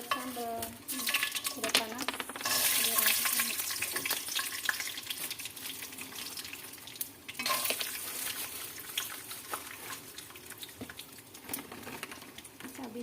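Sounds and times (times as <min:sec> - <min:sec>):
beans sizzling in hot oil: 0:00.0 - 0:13.0.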